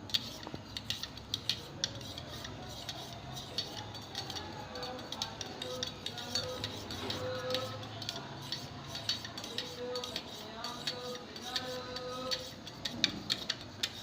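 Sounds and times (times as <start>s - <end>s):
spoon clinking against container: 0.1s - 14.0s.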